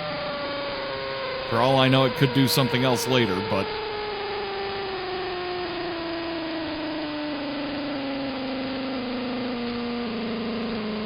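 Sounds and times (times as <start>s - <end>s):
buzzing whine of radio interference: 0.0s - 11.0s.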